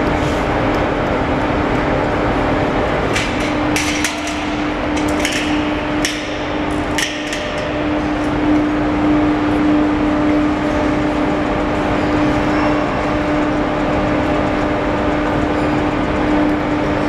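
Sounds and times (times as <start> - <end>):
overhead crane hum: 0.0 - 17.0.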